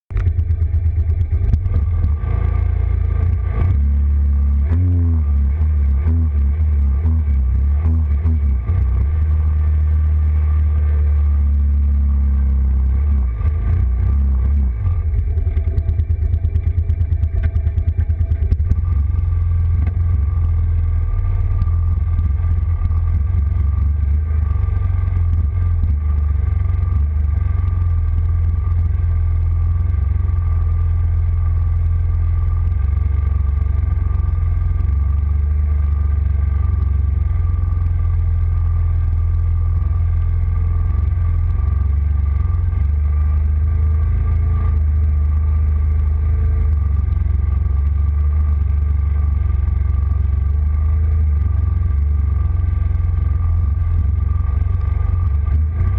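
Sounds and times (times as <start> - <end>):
atv engine running: 0.1 - 55.9.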